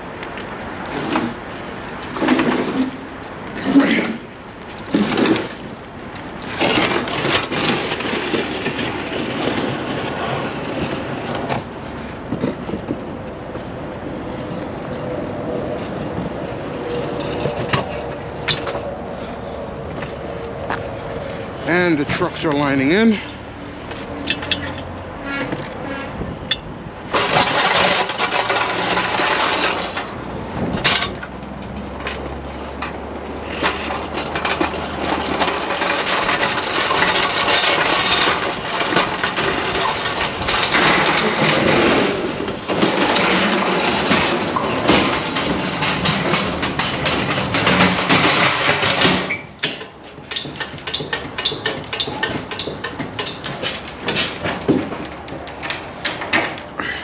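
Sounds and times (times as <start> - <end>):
rattling and clattering: 3.6 - 13.8, 15.8 - 19.3, 21.6 - 57.0.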